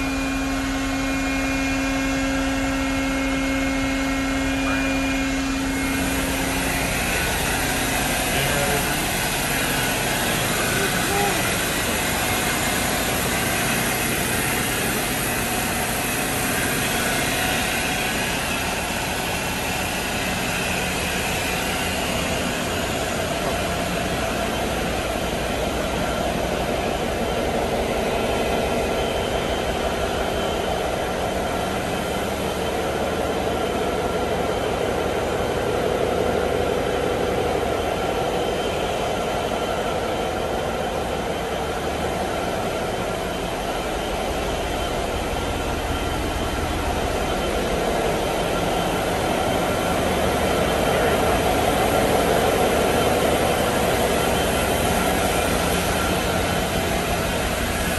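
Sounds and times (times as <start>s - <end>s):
diesel generator droning: 0.0s - 57.9s.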